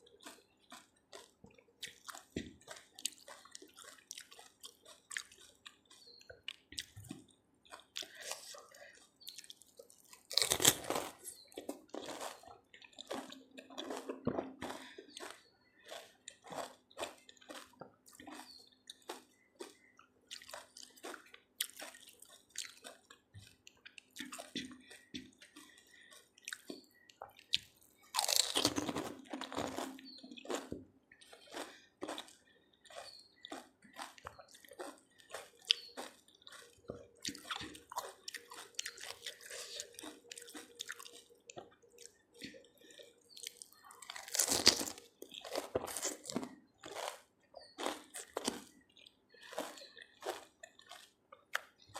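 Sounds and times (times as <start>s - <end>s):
wet chewing with small crackles: 0.0s - 51.9s.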